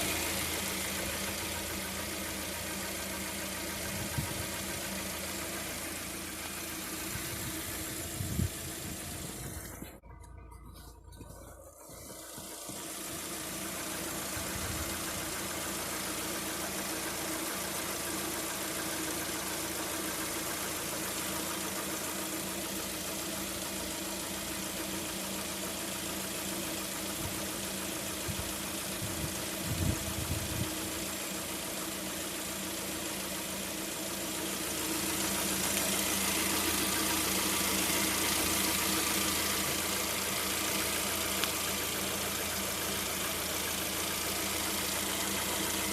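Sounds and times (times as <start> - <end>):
car engine idling with knock: 0.0 - 45.9.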